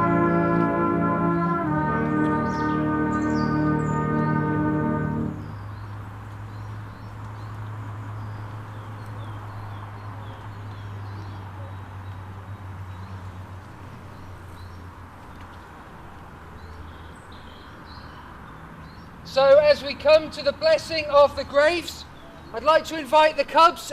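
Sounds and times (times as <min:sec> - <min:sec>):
small birds chirping: 0:02.2 - 0:04.4, 0:05.4 - 0:15.8, 0:16.4 - 0:23.4.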